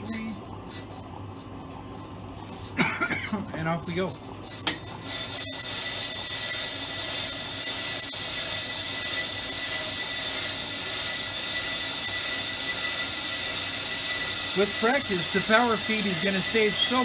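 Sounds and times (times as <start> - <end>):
brake lathe cutting rotor: 3.4 - 17.0.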